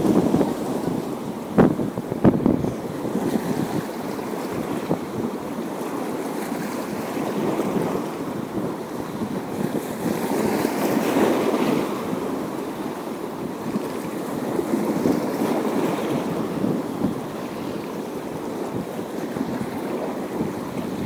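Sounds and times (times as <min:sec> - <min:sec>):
sea waves washing on rocks: 0:00.0 - 0:21.0
wind buffeting microphone: 0:00.0 - 0:21.0.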